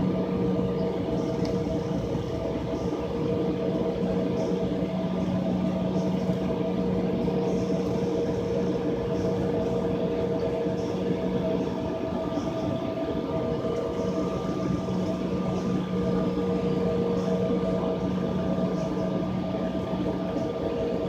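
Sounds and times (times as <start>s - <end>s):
airliner cabin hum: 0.0s - 21.0s.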